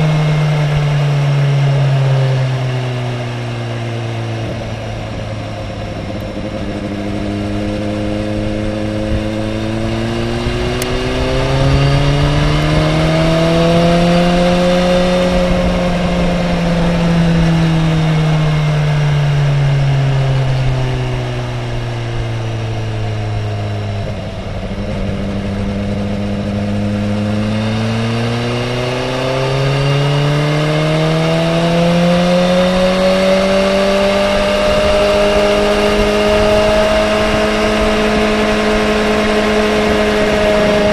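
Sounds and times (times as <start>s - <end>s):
motorcycle engine running hard: 0.0s - 40.9s.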